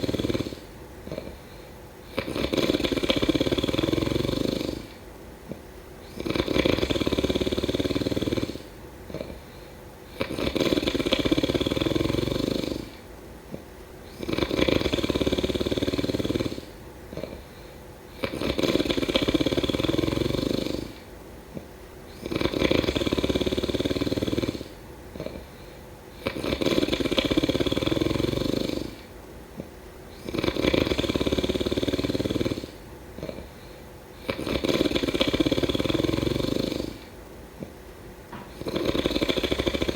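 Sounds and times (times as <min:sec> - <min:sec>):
person snoring: 0:00.0 - 0:29.1, 0:30.1 - 0:37.7, 0:38.3 - 0:39.9
quiet breathing: 0:00.0 - 0:39.9.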